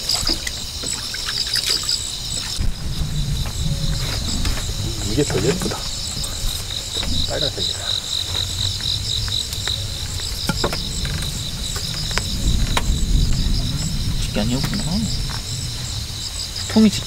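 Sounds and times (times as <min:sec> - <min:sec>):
crickets chirping: 0:00.0 - 0:17.0
low rumble: 0:02.6 - 0:17.0.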